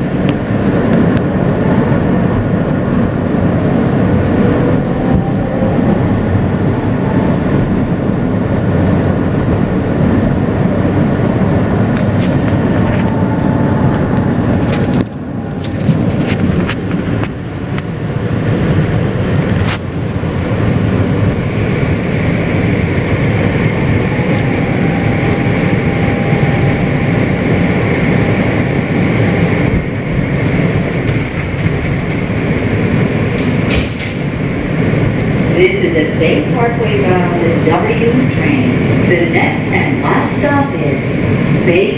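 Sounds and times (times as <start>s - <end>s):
high whine: 0.0s - 41.9s
subway car rumble: 0.0s - 41.9s.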